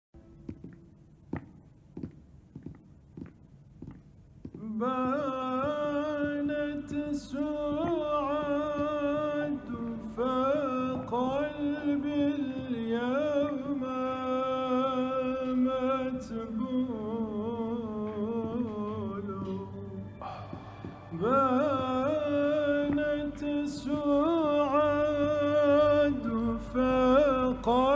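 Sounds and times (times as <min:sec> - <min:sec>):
faint footsteps: 0:00.2 - 0:14.2, 0:16.6 - 0:26.3
solo voice singing slow melody: 0:04.6 - 0:27.9.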